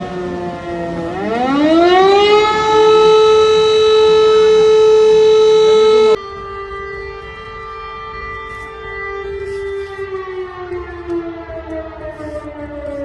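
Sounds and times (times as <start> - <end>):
air-raid siren wailing: 0.0 - 13.0.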